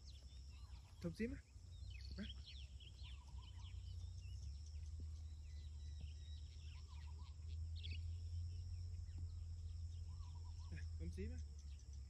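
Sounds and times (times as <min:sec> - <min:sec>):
bird warbling call: 0:00.0 - 0:12.0
low rumble: 0:00.0 - 0:12.0
songbirds chirping: 0:00.0 - 0:12.0.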